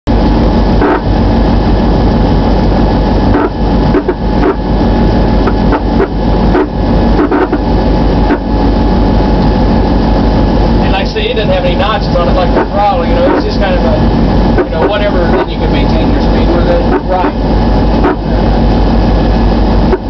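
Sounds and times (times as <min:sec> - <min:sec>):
locomotive engine drone: 0:00.0 - 0:20.0.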